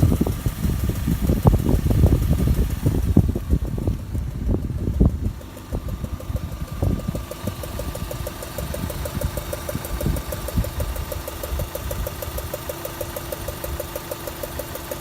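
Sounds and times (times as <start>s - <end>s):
car engine idling with ticking: 0.0s - 15.0s.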